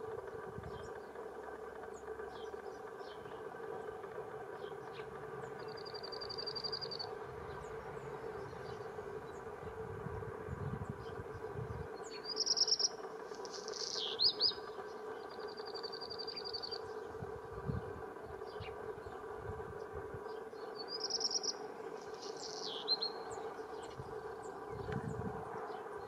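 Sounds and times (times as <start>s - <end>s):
songbird singing: 0.0s - 26.0s
steady hum: 0.0s - 26.0s.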